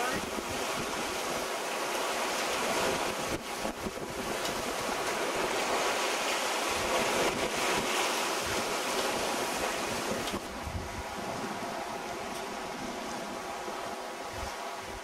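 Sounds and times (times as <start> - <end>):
choppy sea wash: 0.0 - 15.0
wind across the microphone: 0.0 - 15.0.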